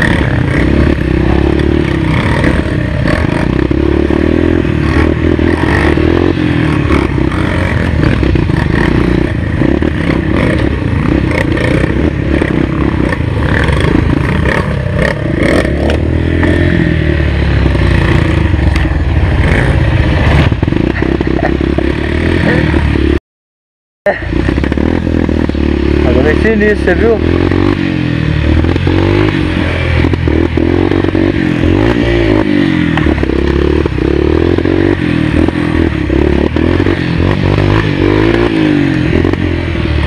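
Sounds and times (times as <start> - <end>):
motorcycle engine revving: 0.0 - 23.2, 24.1 - 40.0.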